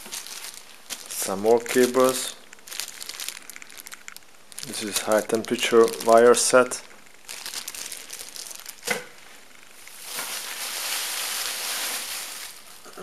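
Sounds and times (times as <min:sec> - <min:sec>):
plastic bags crinkling: 0:00.0 - 0:09.2, 0:09.8 - 0:12.9.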